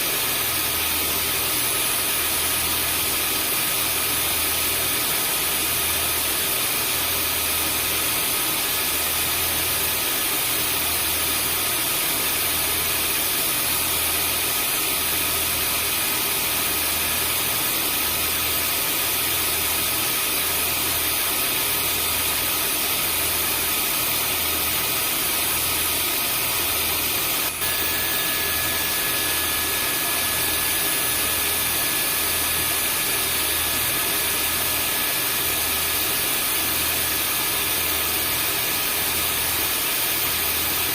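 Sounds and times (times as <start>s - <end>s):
vacuum cleaner motor running: 0.0s - 40.9s.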